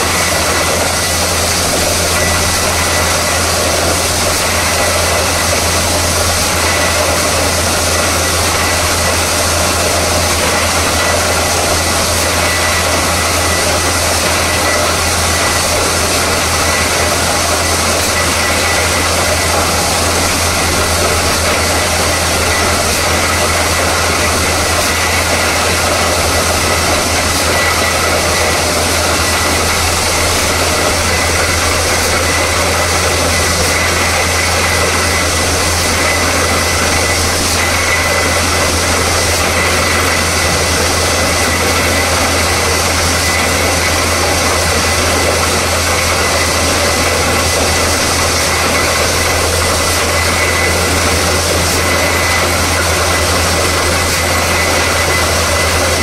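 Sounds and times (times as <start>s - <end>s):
drilling rig running: 0.0s - 56.0s.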